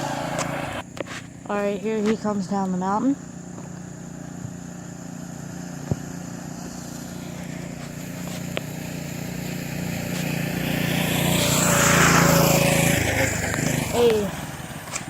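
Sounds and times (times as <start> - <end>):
mini bike engine running: 0.0 - 15.0.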